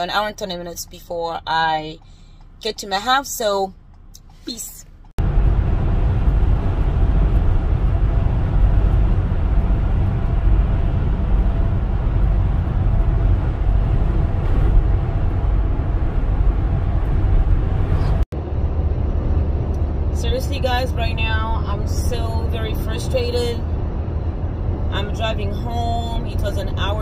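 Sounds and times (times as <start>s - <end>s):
van engine and road noise: 0.0s - 27.0s.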